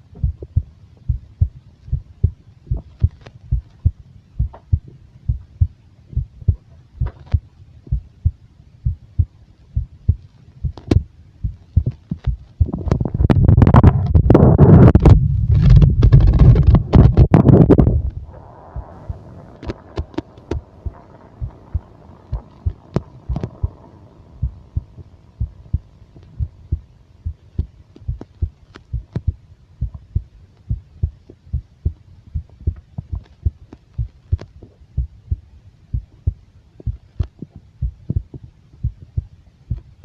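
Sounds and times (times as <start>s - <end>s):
low pulse thumps: 0.0s - 40.0s
stomach rumbling: 0.1s - 8.4s, 9.2s - 39.9s.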